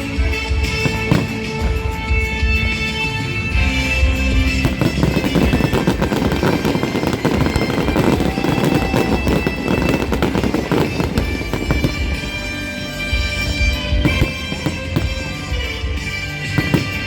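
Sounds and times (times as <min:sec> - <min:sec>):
fireworks bursts and crackles: 0:00.0 - 0:17.0
loud music: 0:00.0 - 0:17.0.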